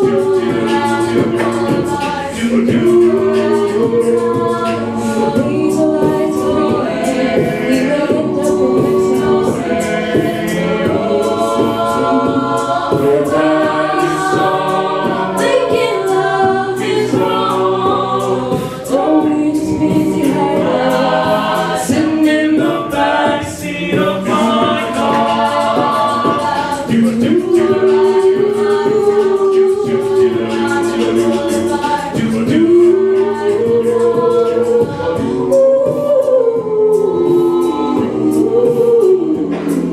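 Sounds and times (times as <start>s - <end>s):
beatboxing: 0.0s - 39.9s
group singing backing chords: 0.0s - 39.9s.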